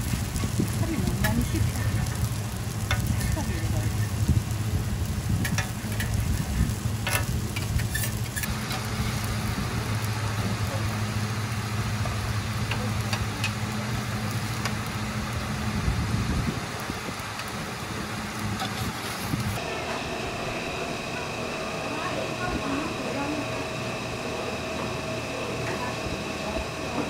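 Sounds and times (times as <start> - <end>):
low hum: 0.0 - 27.0
pancake sizzling on griddle: 0.0 - 27.0.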